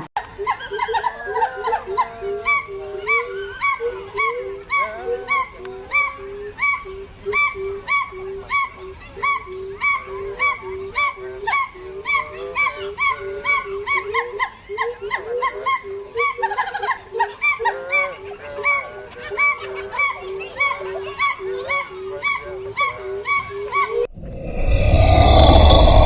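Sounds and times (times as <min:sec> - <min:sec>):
bird calling rhythmically: 0:00.2 - 0:24.1.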